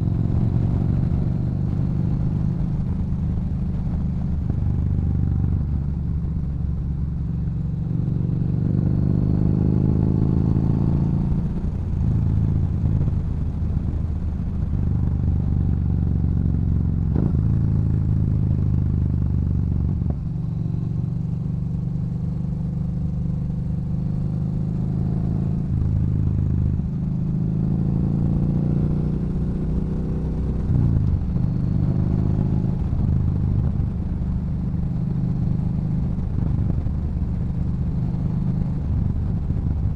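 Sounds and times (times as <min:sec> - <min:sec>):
motorcycle engine riding and shifting: 0:00.0 - 0:39.9.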